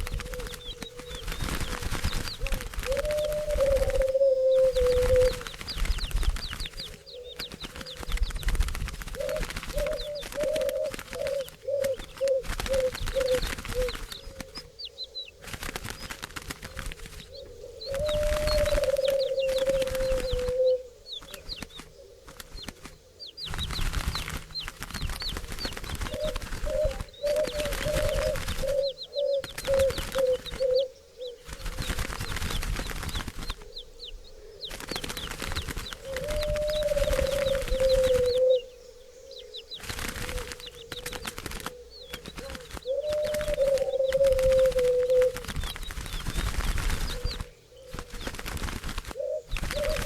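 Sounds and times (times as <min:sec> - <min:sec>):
dove cooing: 0:00.0 - 0:08.2, 0:09.0 - 0:15.5, 0:16.6 - 0:23.2, 0:25.5 - 0:32.4, 0:33.4 - 0:45.7, 0:49.1 - 0:50.0
doves flapping wings: 0:00.0 - 0:38.7, 0:39.4 - 0:50.0.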